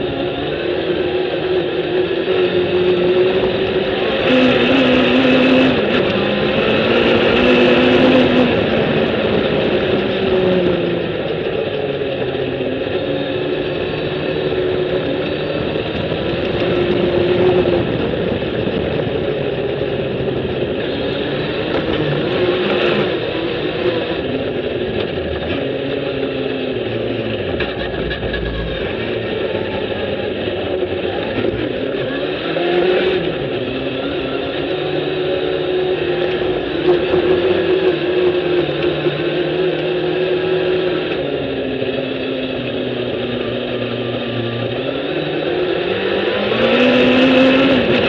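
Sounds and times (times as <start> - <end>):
engine running hard under load: 0.0 - 48.0.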